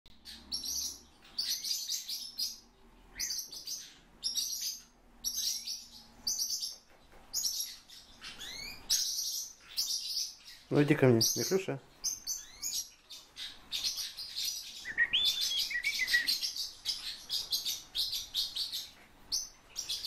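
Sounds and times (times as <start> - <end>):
bird chirping calls: 0.1 - 20.0.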